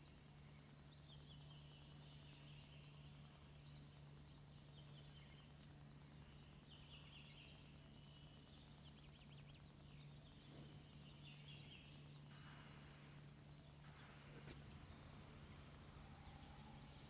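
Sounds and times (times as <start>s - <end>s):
low steady hum: 0.0s - 17.0s
songbird chirps and trills: 0.0s - 17.0s.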